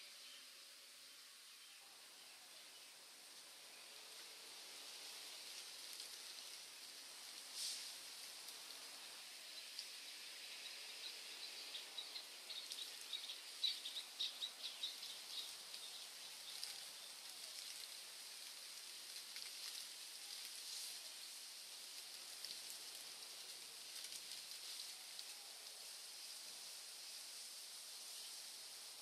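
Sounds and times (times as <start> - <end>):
steady high hiss: 0.0 - 29.0.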